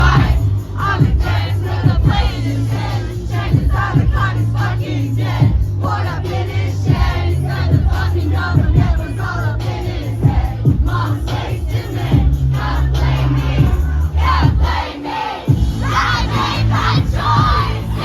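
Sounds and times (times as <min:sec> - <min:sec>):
booming bass beat: 0:00.0 - 0:18.0
crowd voices: 0:00.0 - 0:18.0
live concert music: 0:00.0 - 0:18.0
vocals: 0:00.0 - 0:18.0.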